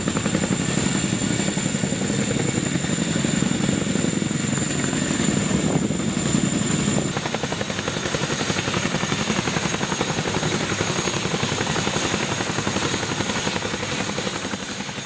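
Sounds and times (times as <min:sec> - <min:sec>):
helicopter rotor chop: 0:00.0 - 0:15.0
high turbine whine: 0:00.0 - 0:15.0.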